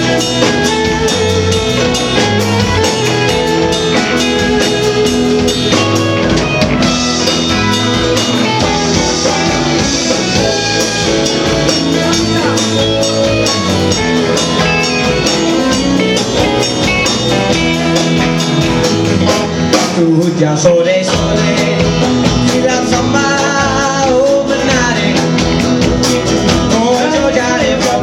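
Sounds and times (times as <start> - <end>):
band playing instrumental: 0.0 - 28.0
drums keeping a beat: 0.0 - 28.0
guitar: 0.0 - 28.0.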